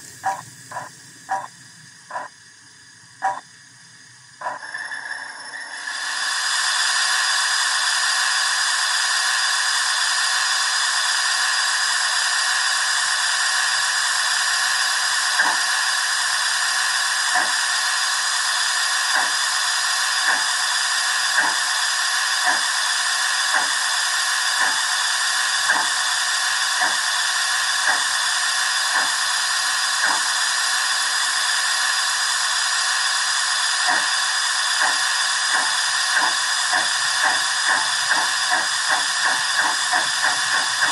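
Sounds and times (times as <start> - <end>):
steam exhaust chuffs: 0.0 - 40.9
steam hiss: 0.0 - 40.9.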